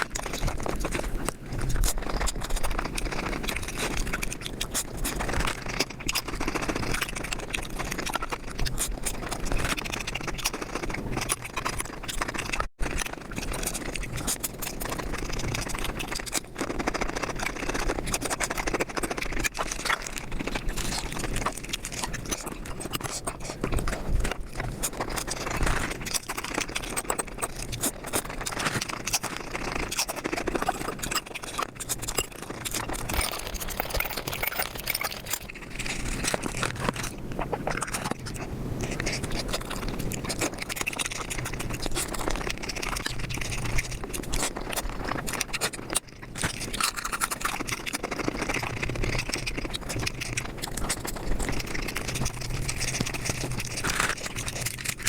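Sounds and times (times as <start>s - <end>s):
rapid chewing and smacking: 0.0s - 55.0s.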